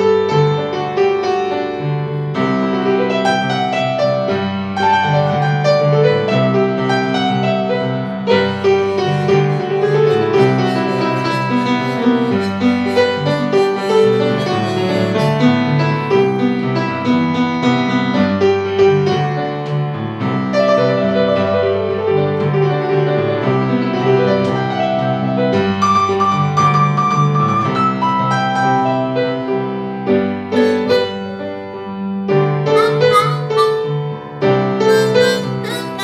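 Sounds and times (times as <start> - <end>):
instrumental piano music: 0.0 - 36.0.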